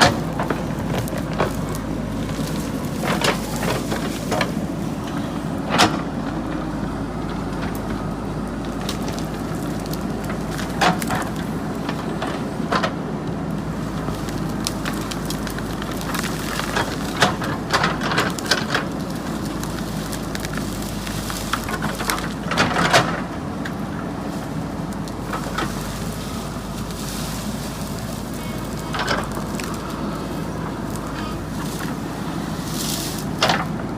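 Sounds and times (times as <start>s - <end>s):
diesel engine running: 0.0s - 33.9s
wood and brush cracking: 0.0s - 33.9s.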